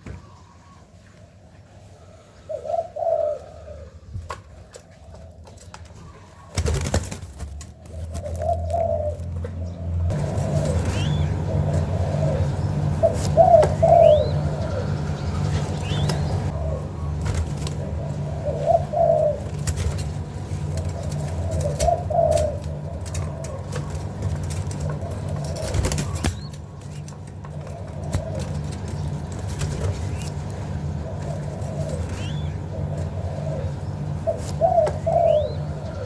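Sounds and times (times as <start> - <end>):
steady low hum: 0.0 - 36.0
dove cooing: 1.8 - 36.0.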